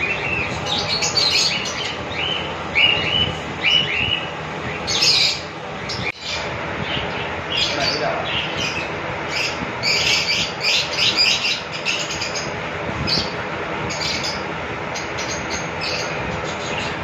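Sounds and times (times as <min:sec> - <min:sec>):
parakeets chirping: 0:00.0 - 0:17.0.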